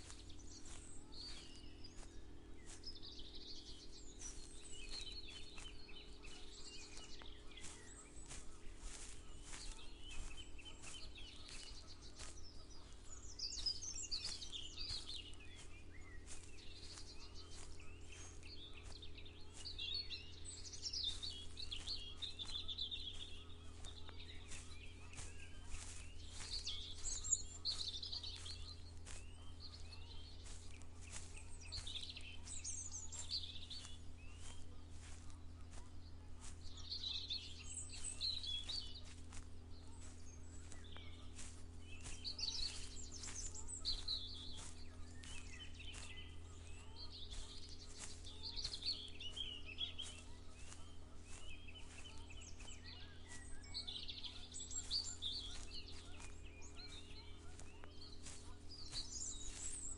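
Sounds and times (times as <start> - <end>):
songbirds singing: 0.0 - 59.9
steady low hum: 0.0 - 59.9.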